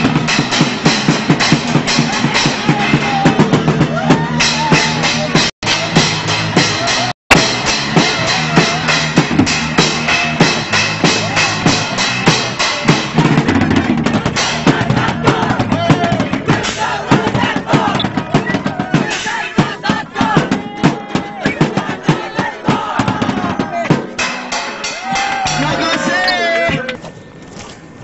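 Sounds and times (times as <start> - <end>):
pounding drum kit: 0.0 - 26.9.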